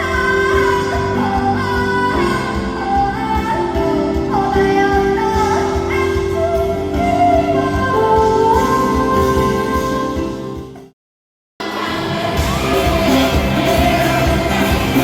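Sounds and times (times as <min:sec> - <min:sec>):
woman singing: 0:00.0 - 0:10.6, 0:11.6 - 0:15.0
live band playing: 0:00.0 - 0:10.9, 0:11.6 - 0:15.0.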